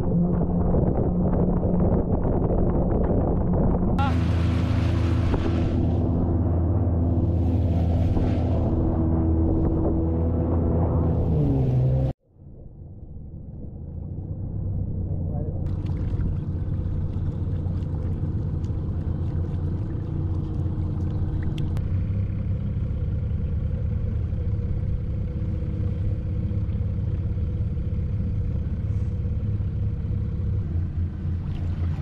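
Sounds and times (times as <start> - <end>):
outboard motor humming: 0.0 - 12.1, 15.6 - 32.0
water and air noise: 0.0 - 32.0.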